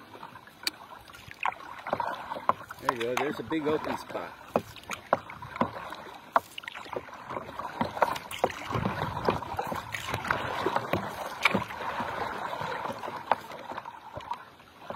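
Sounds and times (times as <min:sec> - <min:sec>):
paddle dipping in water: 0:00.0 - 0:14.9
water splashing and dripping: 0:00.0 - 0:14.9.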